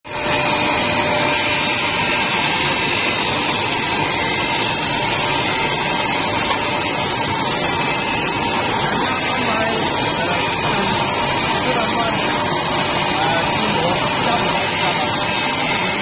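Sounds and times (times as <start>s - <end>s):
glass polishing machine grinding: 0.1s - 16.0s.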